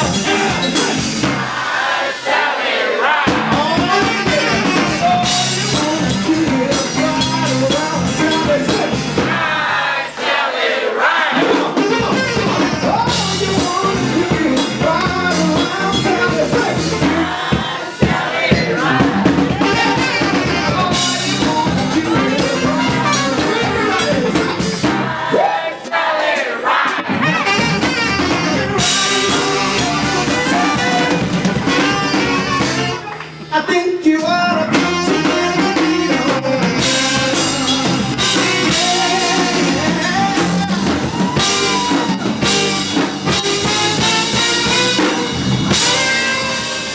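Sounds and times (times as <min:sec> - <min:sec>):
drum kit beat: 0:00.0 - 0:33.5, 0:34.2 - 0:46.9
blues band playing: 0:00.0 - 0:46.9.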